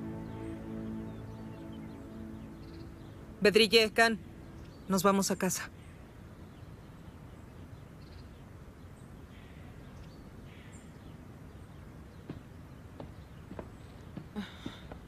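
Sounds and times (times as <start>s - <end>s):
faint bird chirps: 0.0s - 14.9s.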